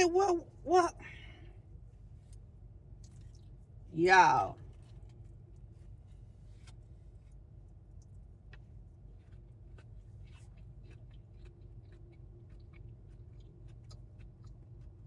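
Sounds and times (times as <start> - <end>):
faint low hum: 0.0 - 15.0
person chewing fried food: 1.8 - 3.8, 4.7 - 15.0.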